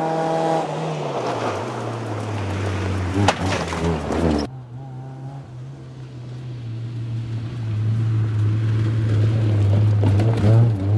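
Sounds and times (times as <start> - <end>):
car engine drone: 0.0 - 10.9.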